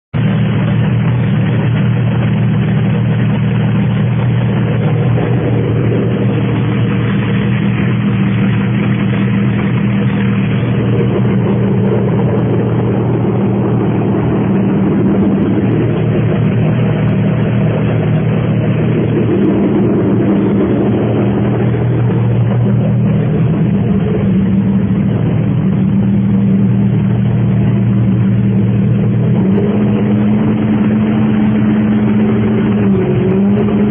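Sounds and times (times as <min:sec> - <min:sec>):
racing engine running loudly: 0:00.2 - 0:33.9.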